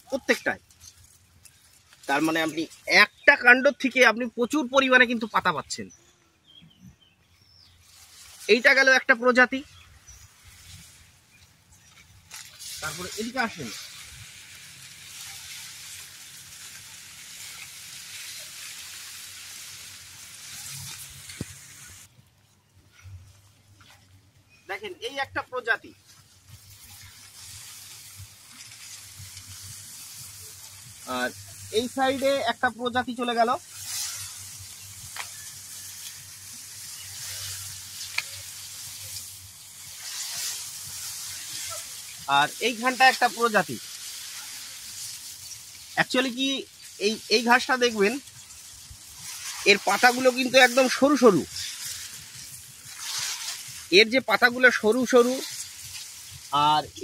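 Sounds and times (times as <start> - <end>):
grass leaves rustling: 0.0 - 6.2, 7.2 - 57.0.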